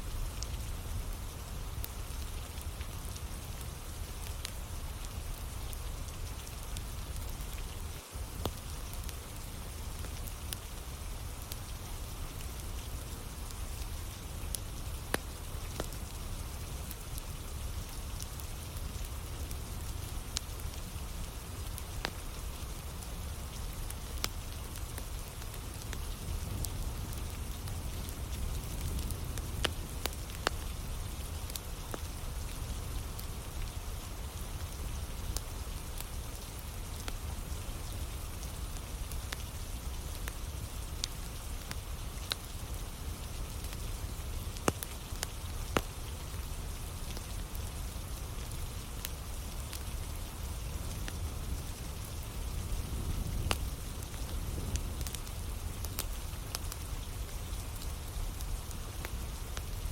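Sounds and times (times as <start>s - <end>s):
rain on a surface: 0.0s - 59.9s
firewood crackling and popping: 0.1s - 59.9s.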